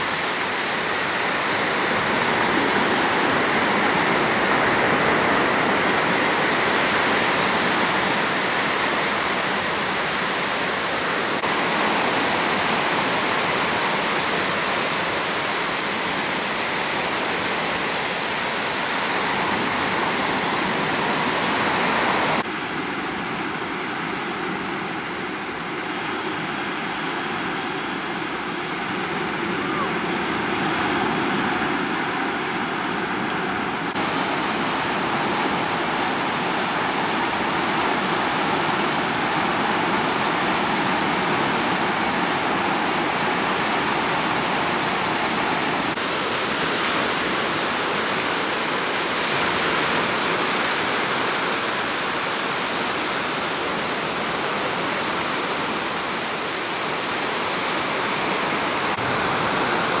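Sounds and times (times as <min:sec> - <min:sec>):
surf washing onto beach: 0:00.0 - 1:00.0.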